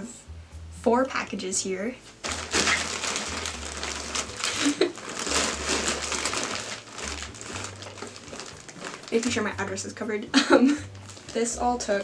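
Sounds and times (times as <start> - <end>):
plastic bags rustling: 2.2 - 12.0.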